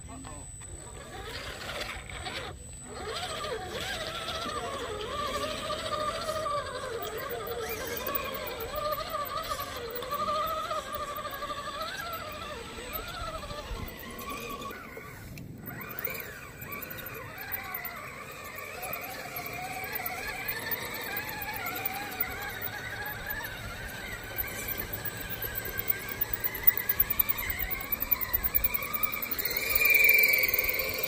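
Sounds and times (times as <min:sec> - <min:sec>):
electric motor and drivetrain whining: 0:00.0 - 0:31.0.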